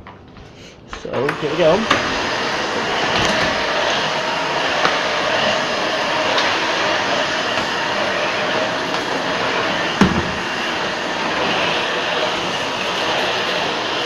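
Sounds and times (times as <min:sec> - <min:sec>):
vacuum cleaner running: 0:00.9 - 0:14.0.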